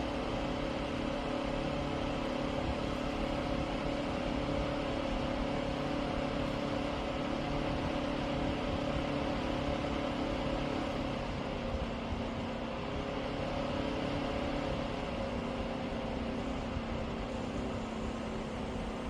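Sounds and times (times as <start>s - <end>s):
air cooler fan humming: 0.0s - 19.0s.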